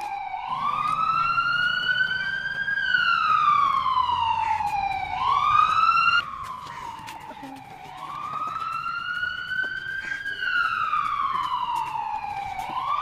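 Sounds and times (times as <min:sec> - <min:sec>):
wailing siren: 0:00.0 - 0:13.0.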